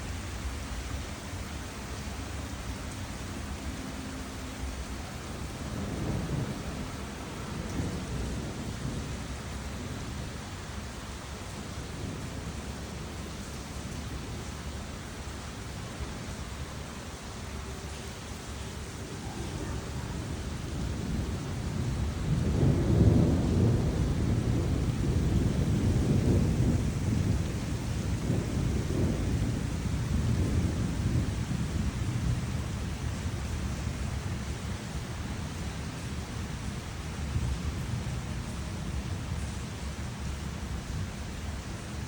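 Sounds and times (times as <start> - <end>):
steady rain hiss: 0.0 - 42.0.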